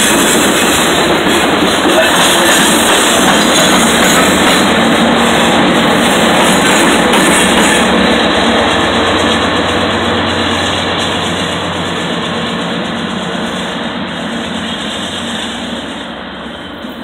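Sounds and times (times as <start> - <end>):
diesel locomotive engine drone: 0.0 - 17.0
train wheels on rails: 0.0 - 17.0.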